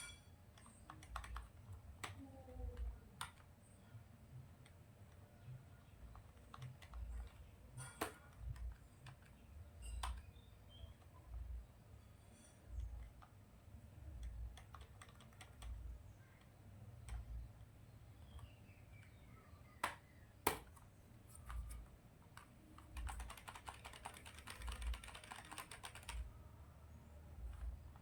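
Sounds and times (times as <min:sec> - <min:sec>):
typing on keyboard: 0:00.4 - 0:11.8, 0:12.4 - 0:26.4.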